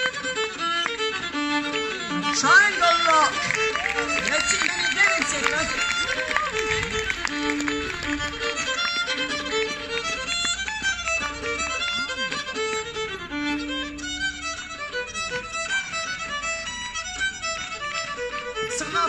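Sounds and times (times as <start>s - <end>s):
fiddle folk dance tune: 0.0s - 19.0s.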